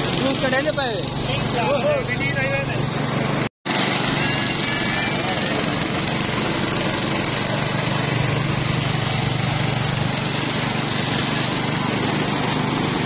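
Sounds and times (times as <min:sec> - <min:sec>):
juice crusher humming: 0:00.0 - 0:13.0.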